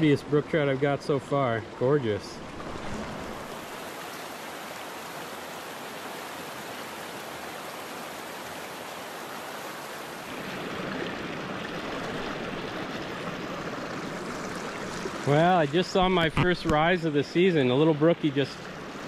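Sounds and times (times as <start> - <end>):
stream flowing over stones: 0.0 - 19.0.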